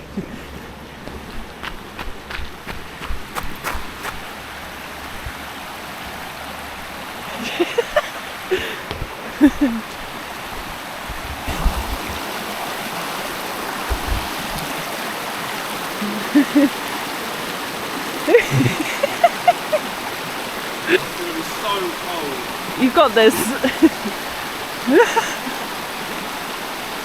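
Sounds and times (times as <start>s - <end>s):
river water flowing over stones: 0.0s - 27.0s.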